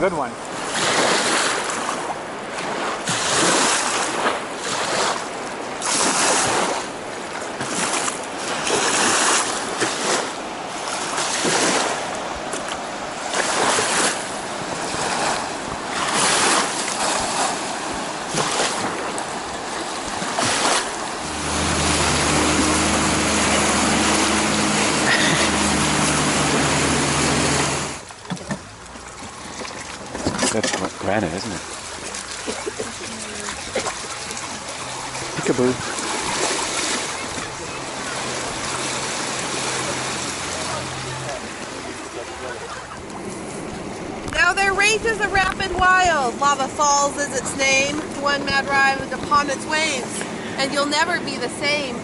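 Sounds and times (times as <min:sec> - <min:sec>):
waves splashing against raft: 0:00.0 - 0:52.0
whitewater rushing: 0:00.0 - 0:52.0.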